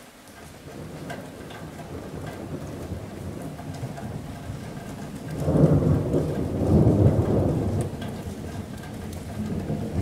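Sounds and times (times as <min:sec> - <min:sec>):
rain on a metal roof: 0:00.0 - 0:10.0.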